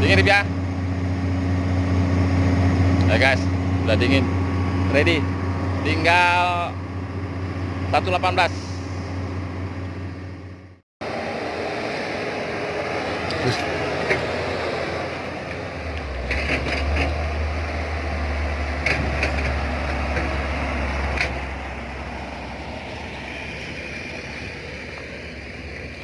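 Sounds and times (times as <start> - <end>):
deep engine hum: 0.0 - 26.0
excavator machinery running: 0.0 - 26.0.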